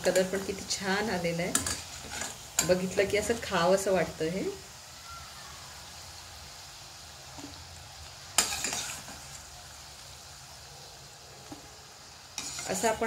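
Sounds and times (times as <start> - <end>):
oil frying: 0.0 - 13.0.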